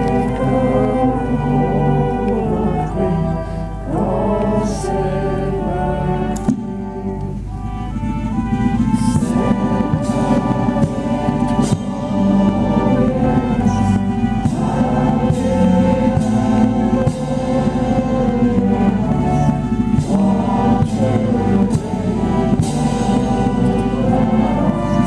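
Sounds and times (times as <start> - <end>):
congregation singing a hymn: 0.0 - 25.0.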